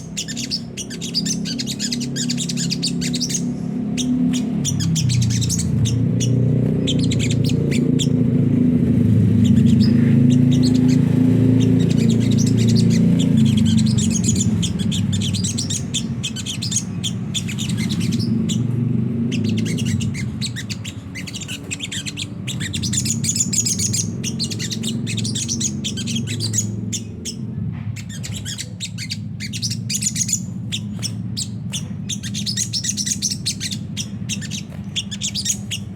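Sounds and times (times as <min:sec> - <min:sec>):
bird twittering song: 0:00.0 - 0:35.9.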